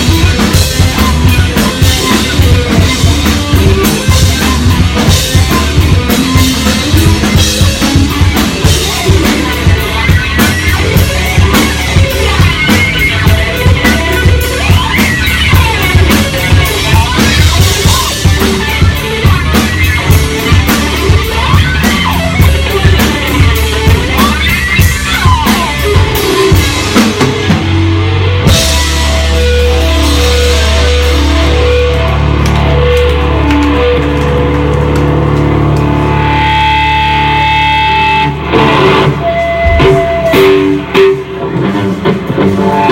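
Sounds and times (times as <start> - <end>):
drum kit beat: 0.0 - 42.9
electric guitars: 0.0 - 42.9.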